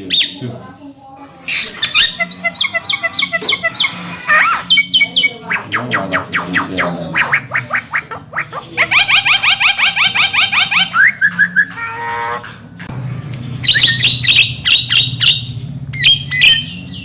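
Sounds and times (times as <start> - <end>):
myna bird chattering: 0.0 - 12.9, 13.5 - 17.0.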